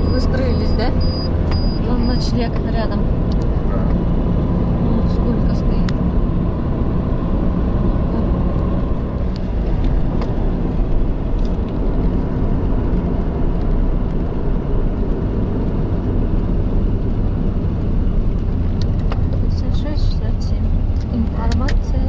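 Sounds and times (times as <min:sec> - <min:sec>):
car driving: 0:00.0 - 0:22.0.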